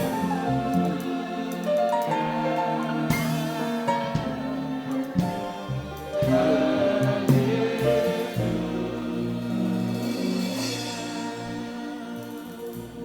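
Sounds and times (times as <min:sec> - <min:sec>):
gospel worship music: 0:00.0 - 0:13.0
voices singing: 0:00.0 - 0:13.0.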